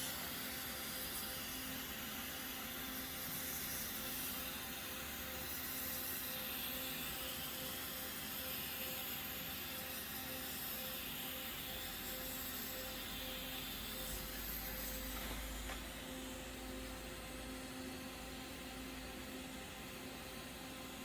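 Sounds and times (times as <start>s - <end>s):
faint electrical tone: 0.0s - 21.0s
welding equipment hum and hiss: 0.0s - 21.0s.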